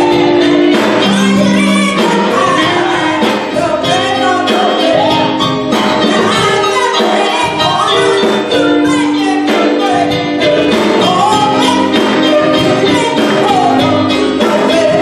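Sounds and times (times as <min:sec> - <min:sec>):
gospel band with drums and guitar: 0:00.0 - 0:15.0
woman singing into a microphone: 0:00.0 - 0:15.0.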